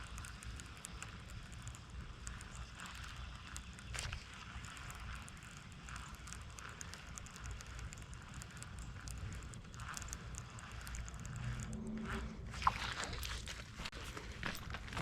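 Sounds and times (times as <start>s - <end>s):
faint crackling ticks: 0.0s - 15.0s.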